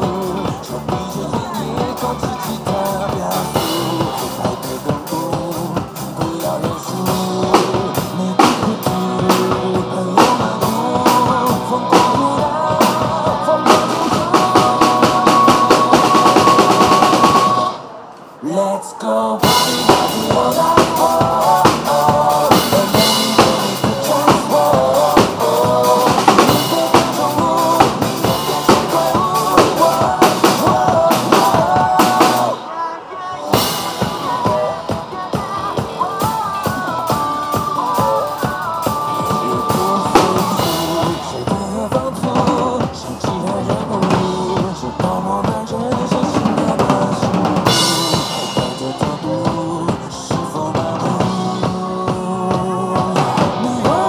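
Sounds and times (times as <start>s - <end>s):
drum kit playing: 0.0s - 17.8s, 19.4s - 32.7s, 33.5s - 54.0s
rock song backing track: 0.0s - 17.8s, 19.4s - 32.7s, 33.5s - 54.0s.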